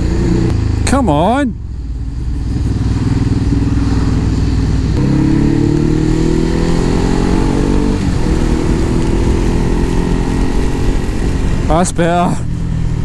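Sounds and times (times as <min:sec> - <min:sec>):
motorcycle engine accelerating: 0:00.0 - 0:11.8
wind rush on microphone: 0:01.6 - 0:13.0.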